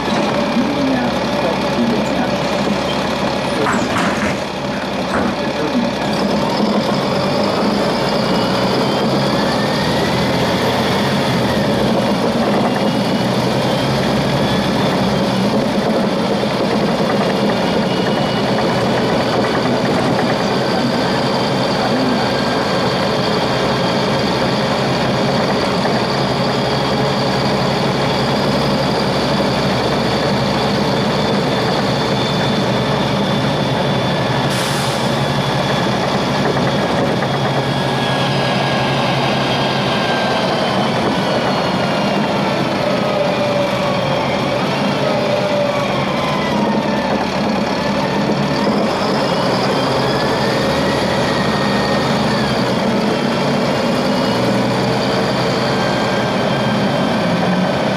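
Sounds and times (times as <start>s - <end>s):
bus diesel engine running: 0.0s - 57.9s.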